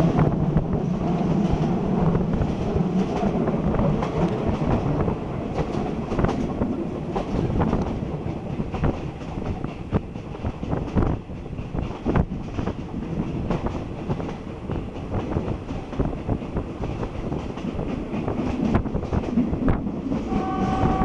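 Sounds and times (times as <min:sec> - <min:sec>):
train rumble: 0:00.0 - 0:21.0
train wheels clacking over rail joints: 0:02.4 - 0:21.0.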